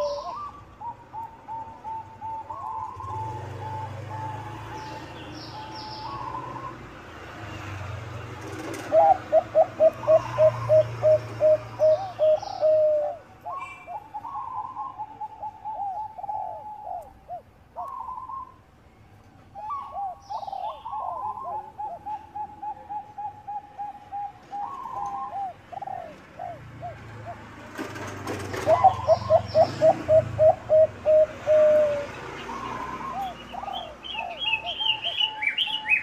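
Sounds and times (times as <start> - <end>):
doves cooing: 0.0 - 7.0, 8.3 - 18.6, 19.6 - 36.0.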